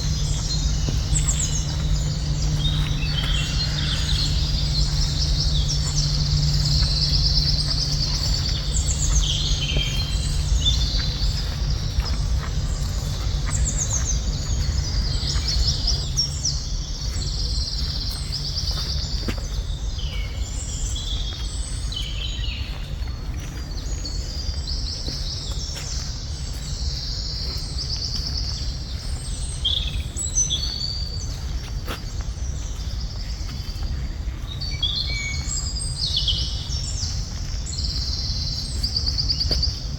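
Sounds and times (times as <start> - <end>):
steady low rumble: 0.0 - 39.9
wild birds chirping: 0.0 - 39.9.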